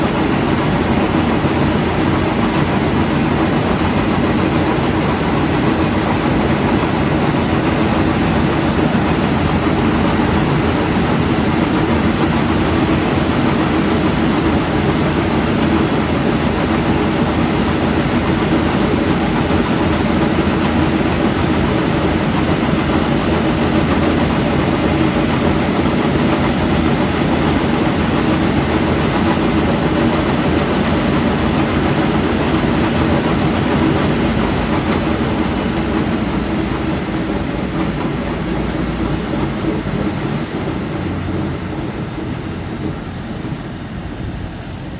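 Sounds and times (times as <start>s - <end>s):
threshing machine running: 0.0s - 44.9s.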